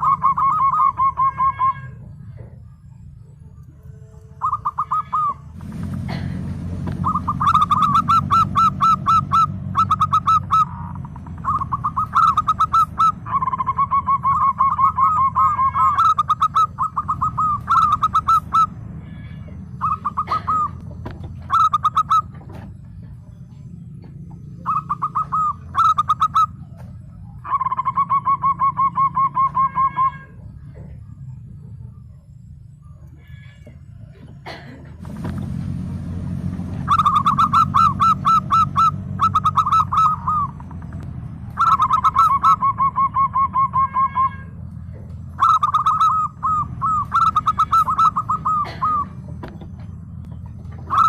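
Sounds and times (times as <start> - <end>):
dove cooing: 0.0 - 32.3, 36.3 - 51.0
steady low hum: 0.0 - 51.0.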